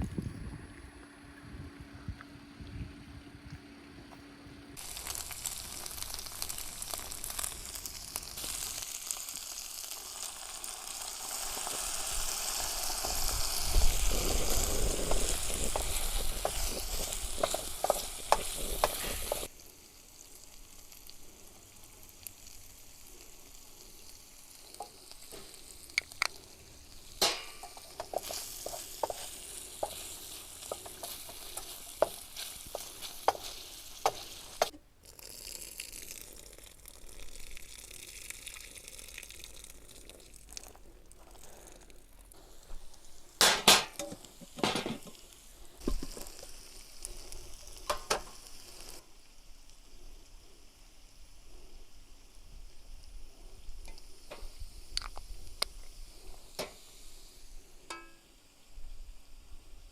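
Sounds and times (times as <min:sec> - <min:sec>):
food sizzling in a pan: 0:04.8 - 0:40.6, 0:42.3 - 0:59.9.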